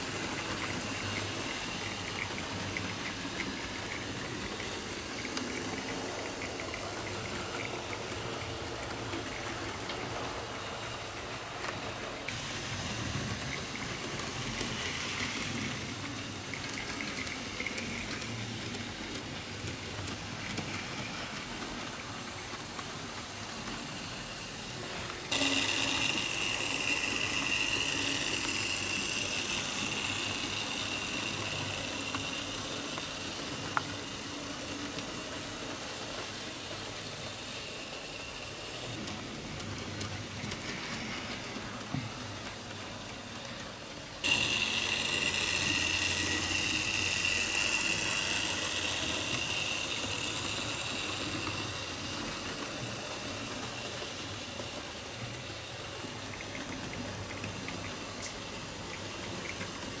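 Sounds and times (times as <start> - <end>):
model train motor whine: 0.0 - 60.0
rolling rail noise: 0.0 - 60.0.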